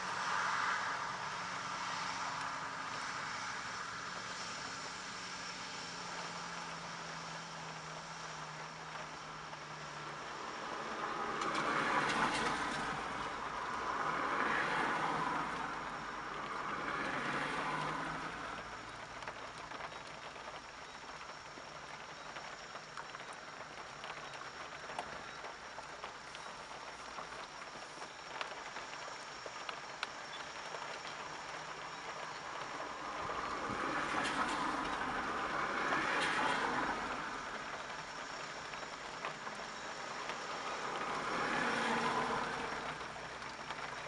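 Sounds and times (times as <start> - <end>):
rain pattering on microphone: 0.0 - 44.0.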